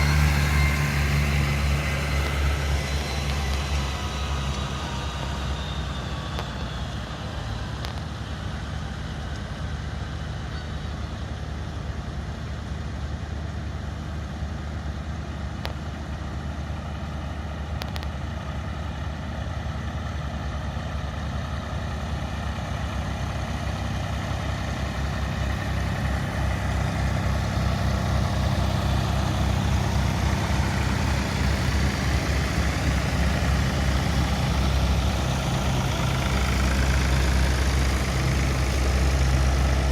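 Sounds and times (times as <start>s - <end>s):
engine rumbling: 0.0s - 39.9s.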